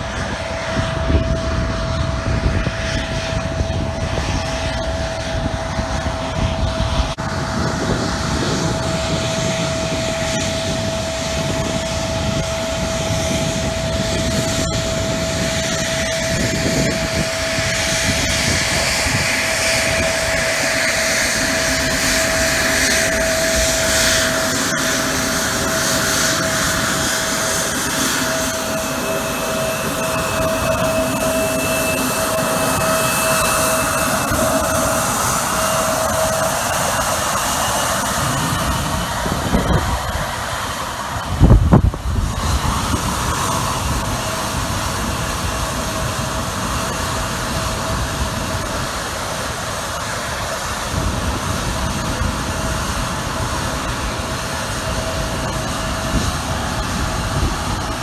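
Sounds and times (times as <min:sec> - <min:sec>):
higher engine whine: 0:00.0 - 0:58.0
jet engines whining: 0:00.0 - 0:58.0.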